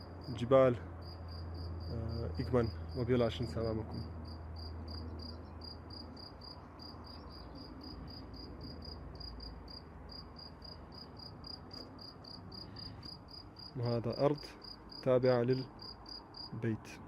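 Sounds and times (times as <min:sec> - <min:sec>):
cricket chirping: 0:00.0 - 0:03.3, 0:03.9 - 0:16.6.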